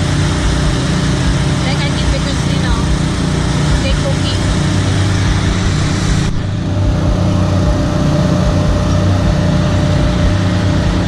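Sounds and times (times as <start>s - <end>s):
loud low engine drone: 0.0s - 11.0s.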